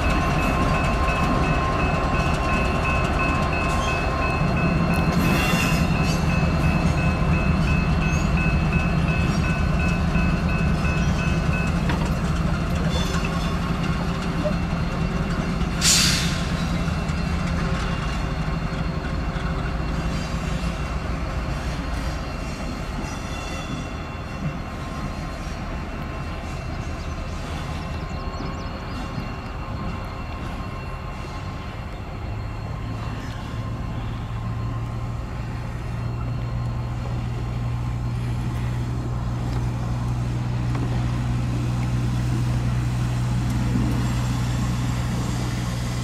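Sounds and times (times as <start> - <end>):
diesel locomotive engines and wheels: 0.0 - 46.0.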